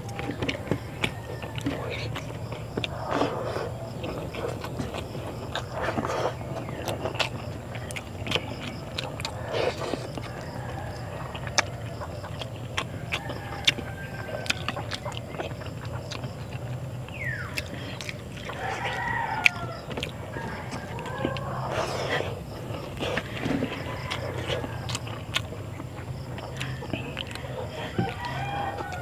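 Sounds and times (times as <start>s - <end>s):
person chewing with mouth clicks: 0.0s - 29.0s.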